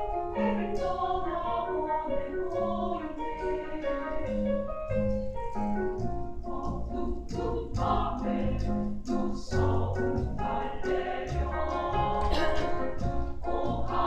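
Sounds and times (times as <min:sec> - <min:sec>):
women's choir singing: 0:00.0 - 0:04.7, 0:06.4 - 0:14.0.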